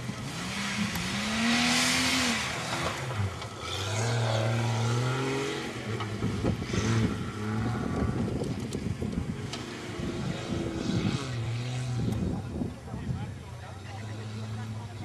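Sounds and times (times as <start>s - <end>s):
off-road vehicle engine revving: 0.0s - 12.9s, 13.6s - 15.0s.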